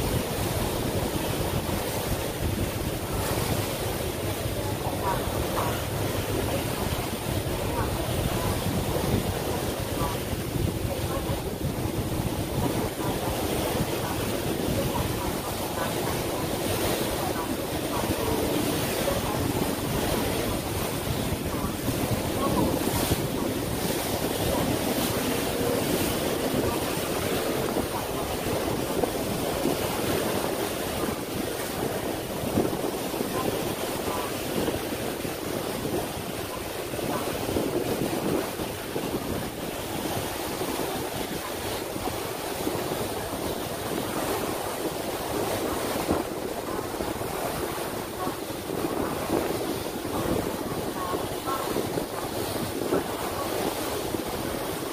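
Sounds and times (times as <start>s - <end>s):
waves rushing: 0.0s - 54.9s
wind buffeting microphone: 0.0s - 54.9s.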